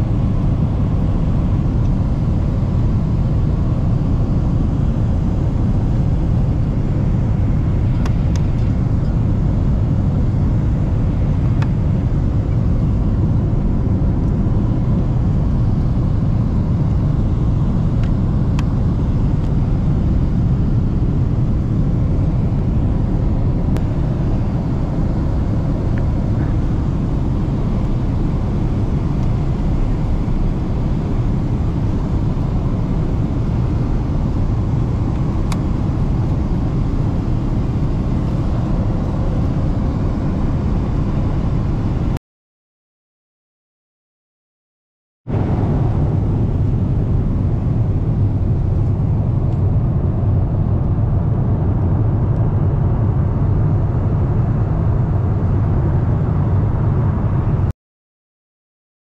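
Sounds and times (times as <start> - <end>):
airliner cabin engine and airflow noise: 0.0 - 42.2, 45.3 - 57.7.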